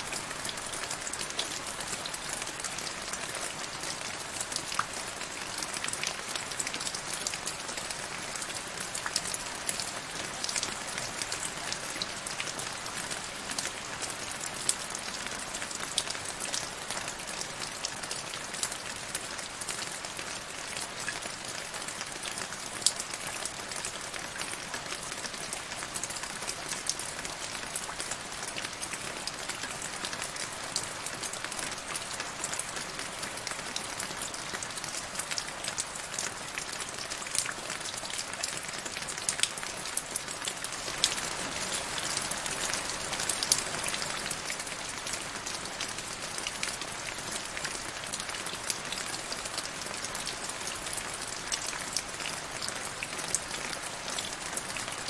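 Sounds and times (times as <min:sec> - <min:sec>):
rain dripping into puddle: 0:00.0 - 0:55.0.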